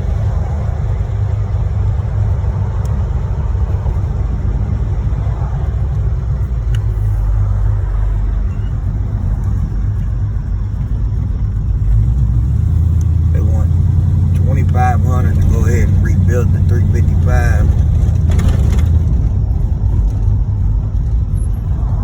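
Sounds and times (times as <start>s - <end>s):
car engine droning inside cabin: 0.0s - 22.0s.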